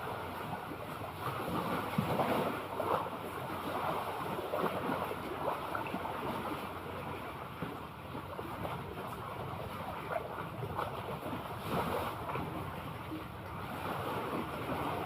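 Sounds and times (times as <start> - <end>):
sea water lapping: 0.0 - 15.0
wind rumbling on microphone: 0.0 - 15.0.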